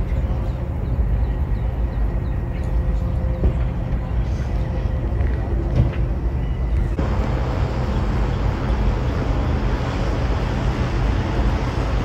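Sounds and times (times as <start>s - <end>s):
constant hum: 0.0s - 12.0s
low engine-like rumble: 0.0s - 12.0s
outdoor noise: 0.0s - 12.0s.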